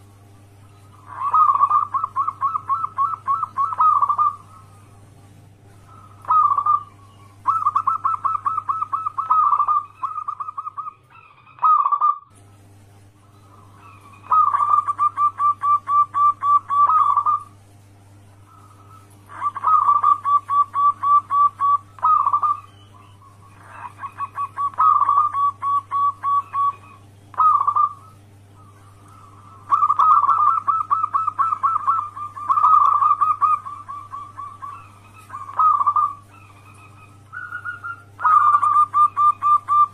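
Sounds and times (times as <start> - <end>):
doves cooing: 0.0 - 39.9
steady low hum: 0.0 - 39.9.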